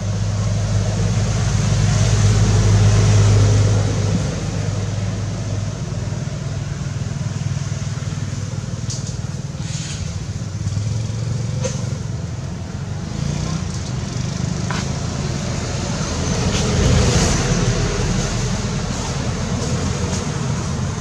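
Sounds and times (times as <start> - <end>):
low rumble of motor traffic: 0.0 - 21.0.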